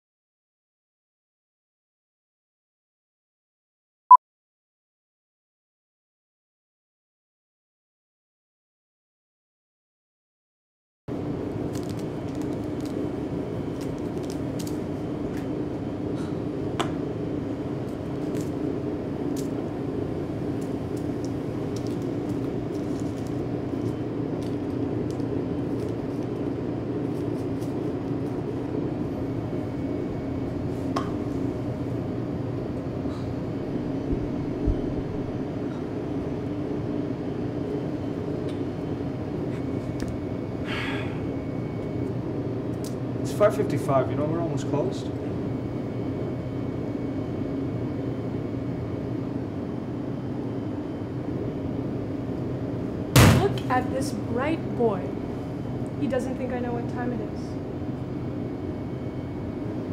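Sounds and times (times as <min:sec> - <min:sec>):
cafe room hum: 0:11.1 - 0:59.9.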